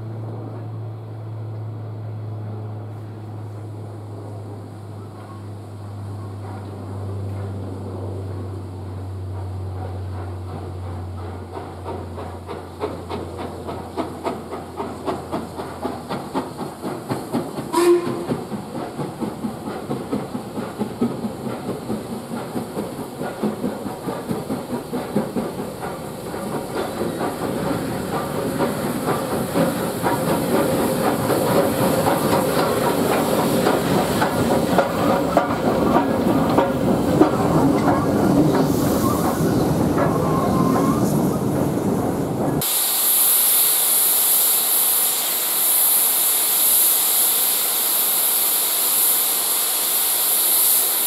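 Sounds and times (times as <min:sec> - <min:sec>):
steam locomotive chuffing: 0:03.0 - 0:51.0
steam hissing: 0:08.9 - 0:51.0.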